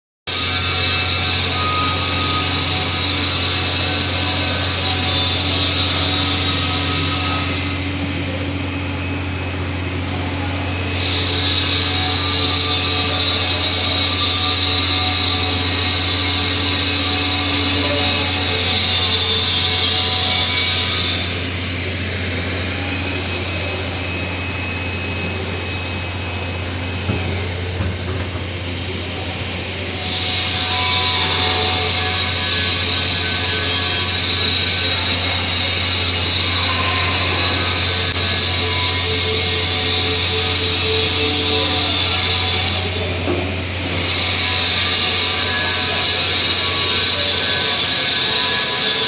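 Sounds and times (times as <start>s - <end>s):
welding arc buzzing hiss: 0.3s - 49.0s.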